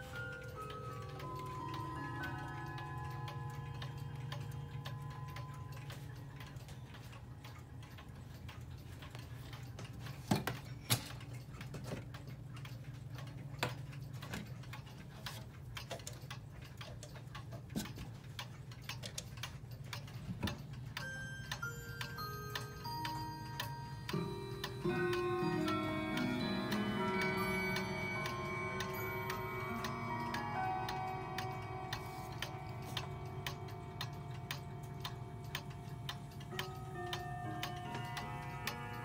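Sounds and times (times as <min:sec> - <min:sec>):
pendulum clock ticking: 0:00.0 - 0:39.0.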